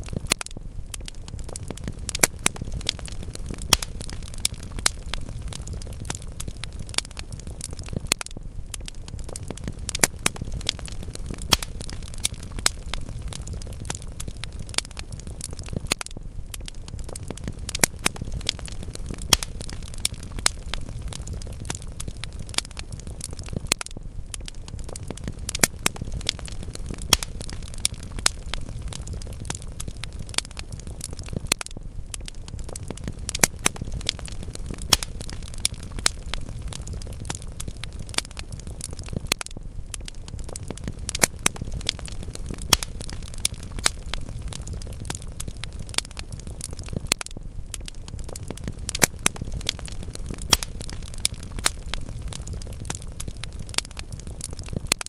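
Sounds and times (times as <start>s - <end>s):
fire crackling and popping: 0.0s - 55.0s
low rumble of flames: 0.0s - 55.0s.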